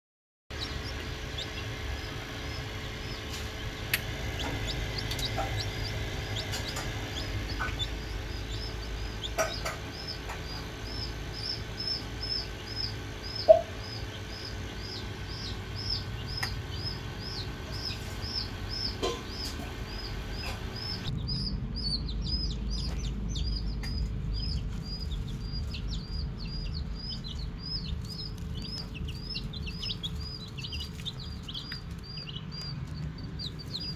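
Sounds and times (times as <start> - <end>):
low hum: 0.5 - 33.9
poultry peeping: 0.5 - 33.9.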